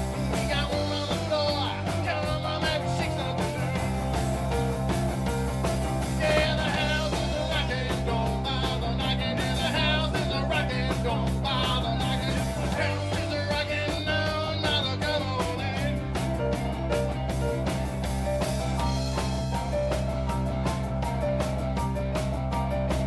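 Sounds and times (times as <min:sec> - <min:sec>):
bass: 0:00.0 - 0:23.0
guitar: 0:00.0 - 0:23.0
keyboard: 0:00.0 - 0:23.0
live rock band playing: 0:00.0 - 0:23.0.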